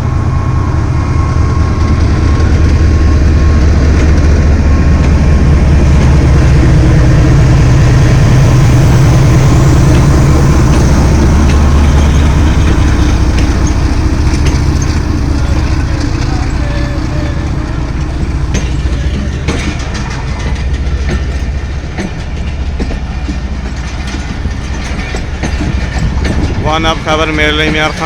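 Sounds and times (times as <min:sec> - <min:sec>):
deep locomotive engine rumble: 0:00.0 - 0:28.0.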